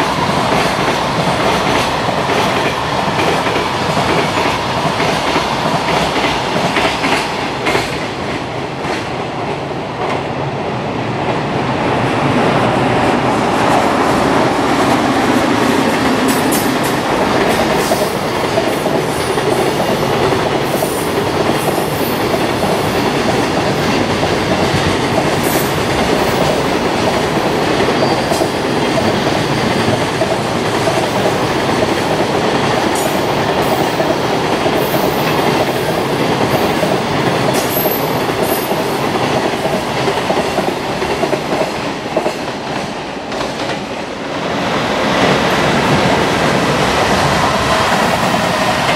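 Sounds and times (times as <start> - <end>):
freight train rumbling past: 0.0 - 48.9.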